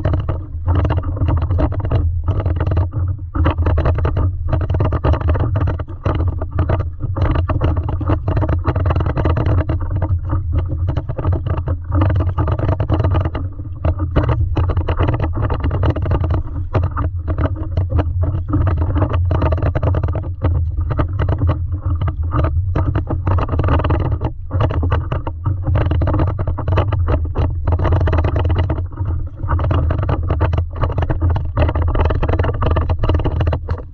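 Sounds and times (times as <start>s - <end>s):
water splashing against paddleboard: 0.0s - 33.9s.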